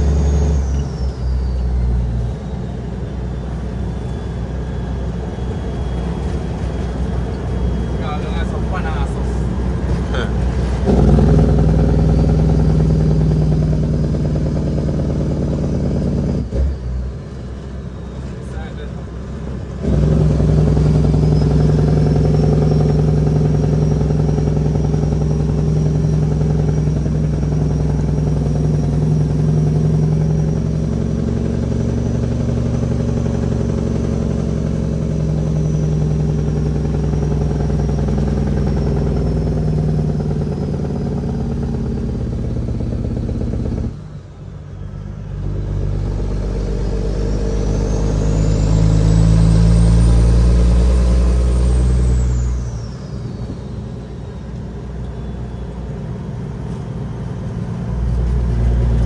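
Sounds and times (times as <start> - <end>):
deep diesel engine drone: 0.0 - 59.0.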